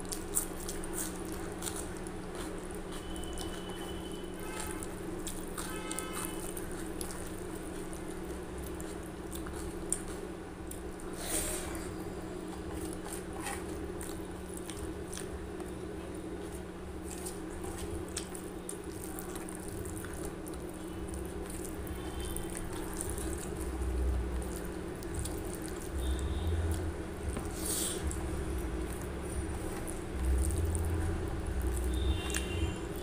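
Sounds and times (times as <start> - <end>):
fingers squelching wet food: 0.0 - 10.9, 16.4 - 33.0
steady low hum: 0.0 - 33.0.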